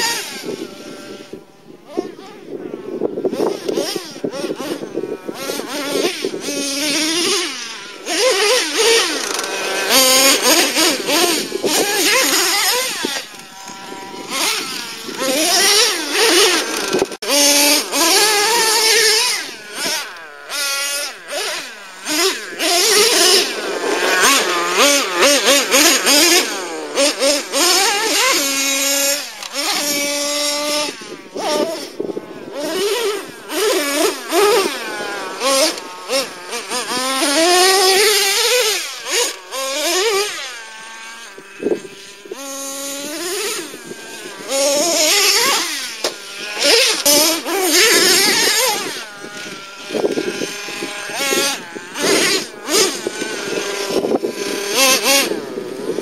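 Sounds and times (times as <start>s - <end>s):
rc truck engine revving: 0.0s - 56.0s.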